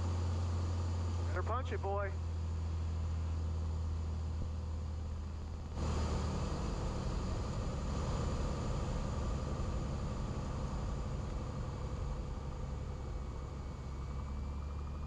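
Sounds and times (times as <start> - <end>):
propeller plane engine drone in cabin: 0.0 - 15.0.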